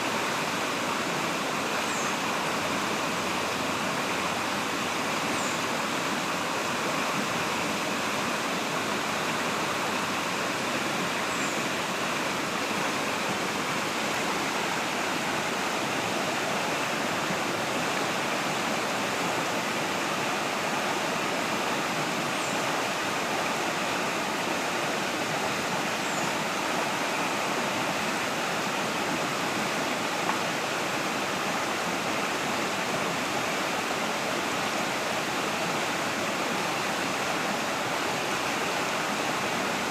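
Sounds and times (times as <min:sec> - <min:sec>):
waterfall over rocks: 0:00.0 - 0:39.9.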